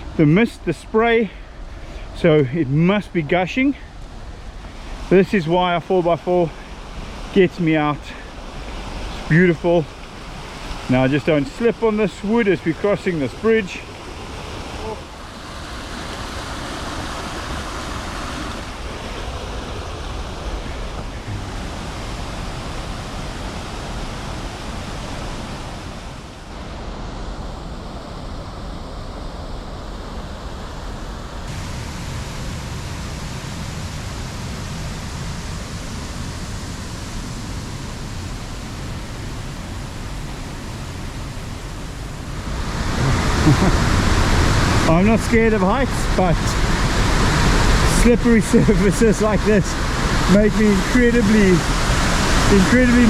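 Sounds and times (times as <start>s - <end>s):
waterfall rushing: 4.2s - 28.5s, 30.3s - 53.0s.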